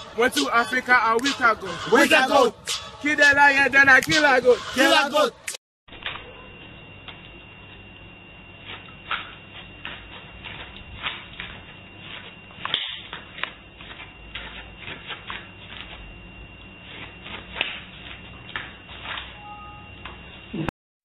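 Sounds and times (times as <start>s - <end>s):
thin high whine: 0.0s - 20.7s.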